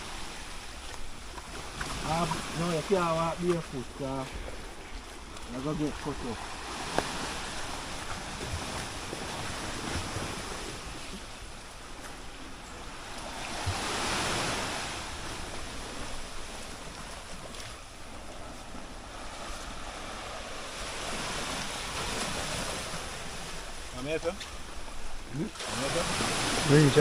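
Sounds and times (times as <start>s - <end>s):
sea waves breaking on rocks: 0.0s - 27.0s.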